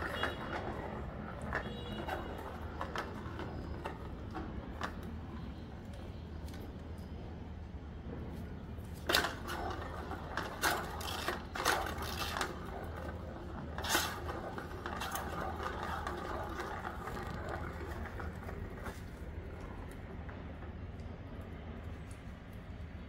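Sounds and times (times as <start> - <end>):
plastic ball rattling on a track: 0.0 - 7.0, 8.8 - 20.9.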